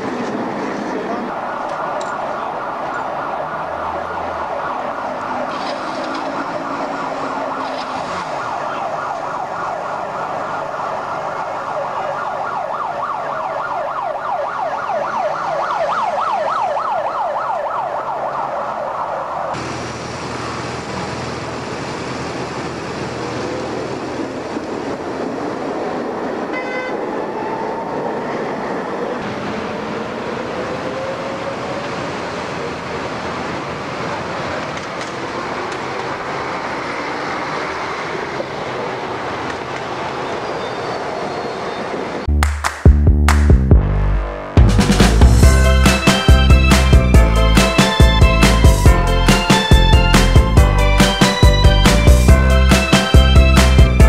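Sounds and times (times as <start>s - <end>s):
bus driving by: 0.0s - 42.4s, 43.3s - 54.0s
vehicles passing: 0.0s - 54.0s.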